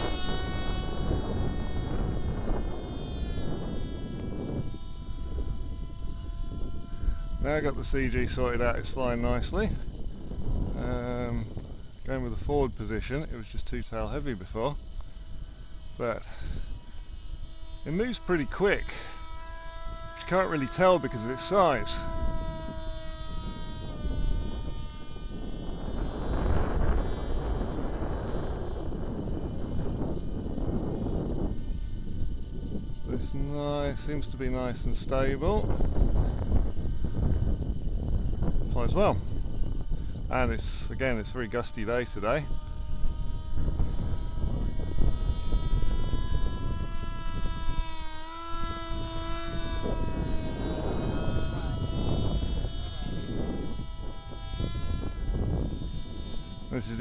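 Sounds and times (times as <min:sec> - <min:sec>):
electric motor propeller whining: 0:00.0 - 0:57.0
wind buffeting microphone: 0:00.0 - 0:57.0.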